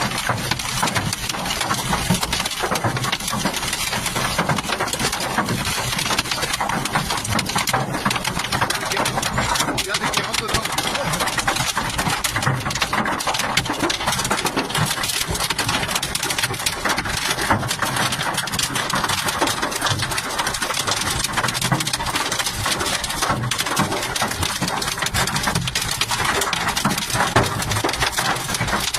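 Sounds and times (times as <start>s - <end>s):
hailstones clattering: 0.0s - 28.9s.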